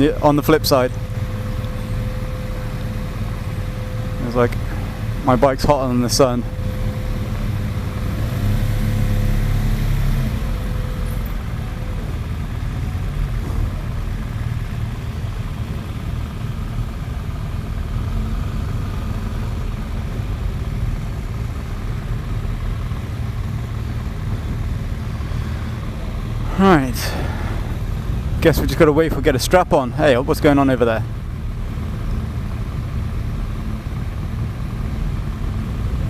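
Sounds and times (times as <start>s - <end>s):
motorcycle engines idling: 0.0s - 36.0s.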